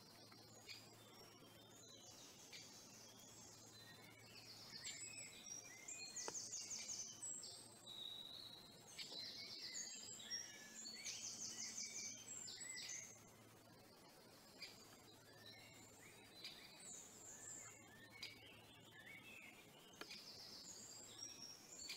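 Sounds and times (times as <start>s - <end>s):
songbird singing with trills: 0.0s - 21.9s.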